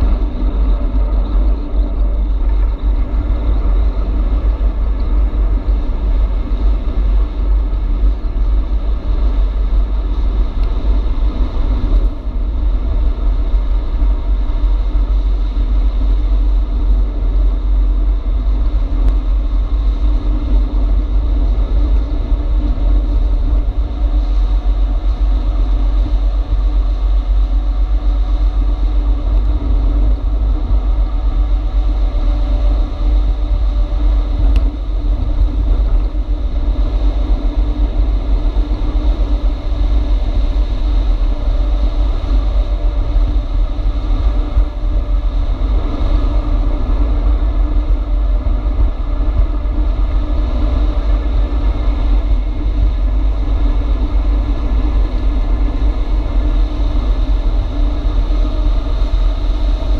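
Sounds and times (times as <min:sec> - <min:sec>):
low hum: 0:00.0 - 0:59.9
road noise: 0:00.0 - 0:59.9
wind buffeting microphone: 0:00.0 - 0:59.9.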